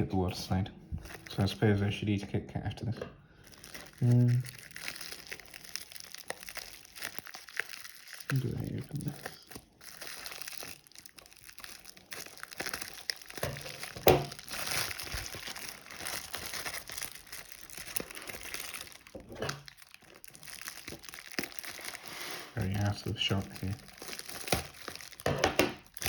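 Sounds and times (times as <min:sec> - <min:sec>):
plastic packaging crinkling: 0:01.0 - 0:01.8, 0:03.4 - 0:26.0.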